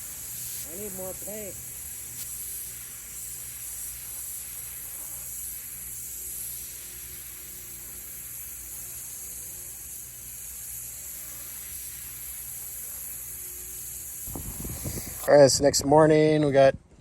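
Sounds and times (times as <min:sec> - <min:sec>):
paint spray gun hissing: 0:00.0 - 0:15.4.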